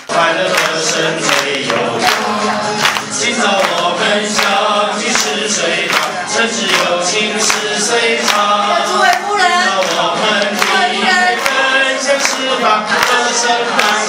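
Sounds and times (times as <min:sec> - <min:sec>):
group of people singing: 0:00.0 - 0:14.0
hands clapping along: 0:00.0 - 0:14.0.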